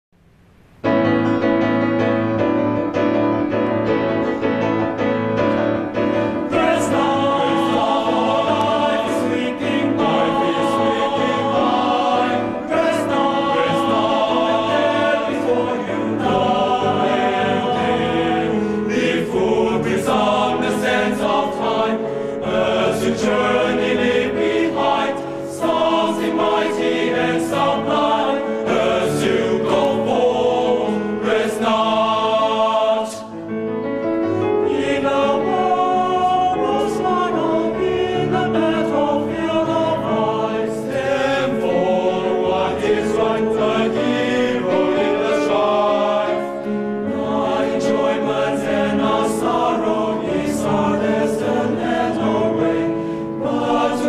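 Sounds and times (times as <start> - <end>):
grand piano: 0.2 - 54.0
boys' choir singing: 5.9 - 33.5, 34.4 - 54.0.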